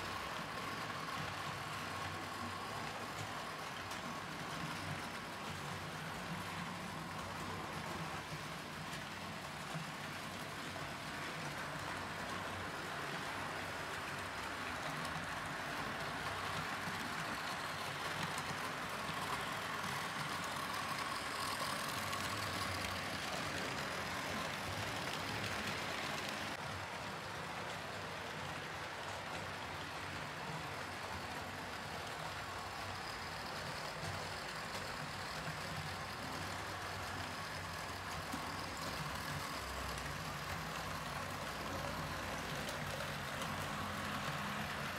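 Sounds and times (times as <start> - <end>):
model train motor whirring: 0.0 - 44.9
wheels rolling on track: 0.0 - 44.9.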